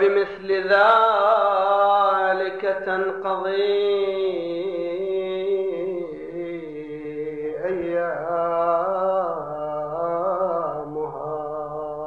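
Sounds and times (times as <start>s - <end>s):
man chanting through microphone: 0.0s - 12.0s.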